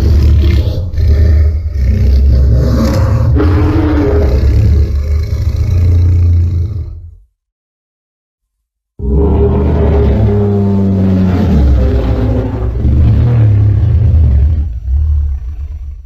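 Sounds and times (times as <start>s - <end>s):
monster roar with deep rumble: 0.0s - 7.2s, 9.0s - 16.0s.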